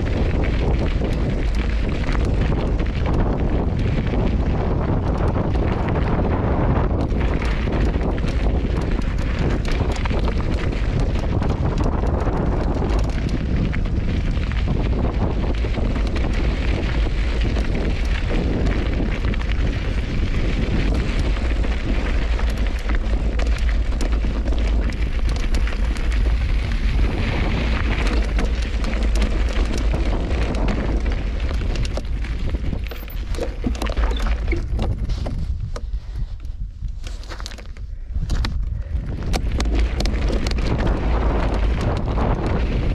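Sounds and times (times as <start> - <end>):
tyres crunching over gravel: 0.0 - 36.2, 37.0 - 42.9
bike rattling: 0.0 - 42.9
wind buffeting microphone: 0.0 - 42.9.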